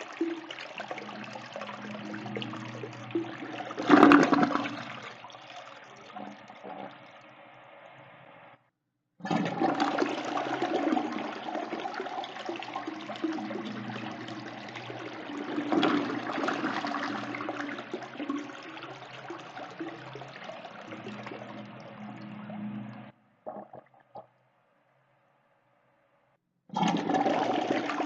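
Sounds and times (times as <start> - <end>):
toilet flushing: 0.0 - 7.8, 9.2 - 23.8, 26.8 - 28.0.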